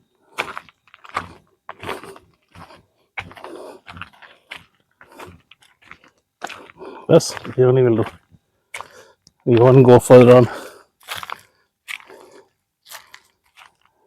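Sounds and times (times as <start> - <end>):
scuffing footsteps: 0.4 - 13.9.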